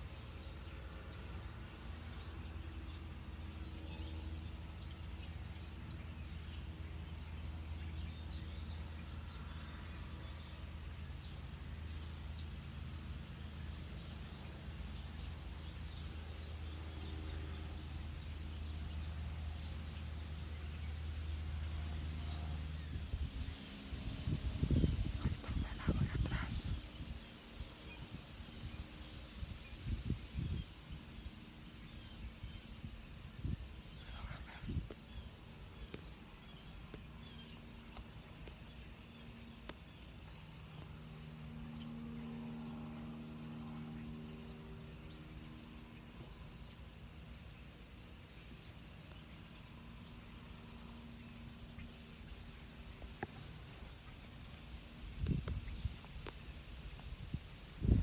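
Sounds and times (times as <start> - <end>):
distant engine hum: 0.0 - 58.0.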